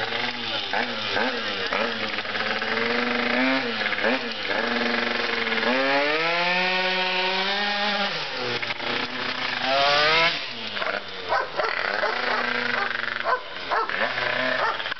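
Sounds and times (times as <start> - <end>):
moped engine revving: 0.0 - 14.9.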